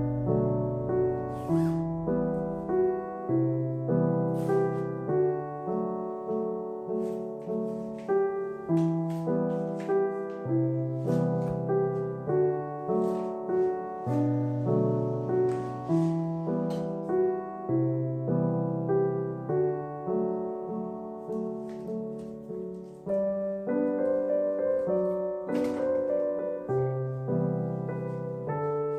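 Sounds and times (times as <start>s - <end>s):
gentle piano melody: 0.0s - 28.9s.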